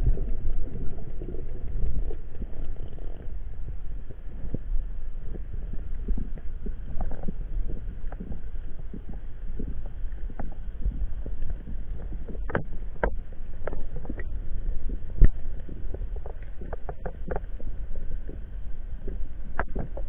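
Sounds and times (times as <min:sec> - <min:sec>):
muffled underwater rumble: 0:00.0 - 0:20.0.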